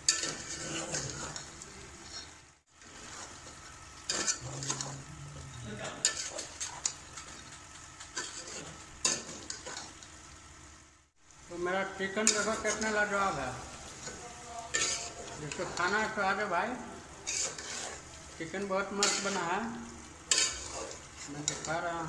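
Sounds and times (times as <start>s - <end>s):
wooden spatula stirring: 0.0s - 5.1s, 5.8s - 10.2s, 12.1s - 22.0s
chicken sizzling in a pot: 0.0s - 22.0s.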